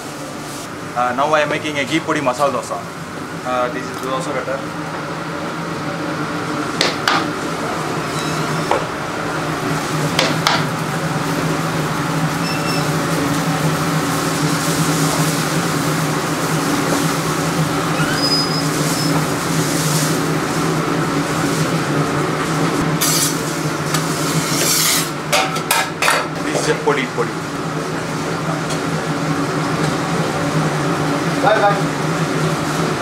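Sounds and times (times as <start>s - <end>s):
ventilation hum: 0.0s - 33.0s.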